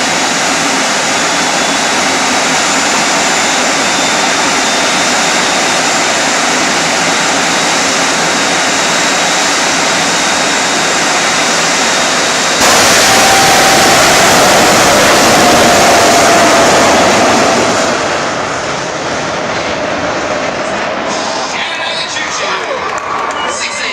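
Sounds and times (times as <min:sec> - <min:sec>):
jet engine roaring with whine: 0:00.0 - 0:23.9.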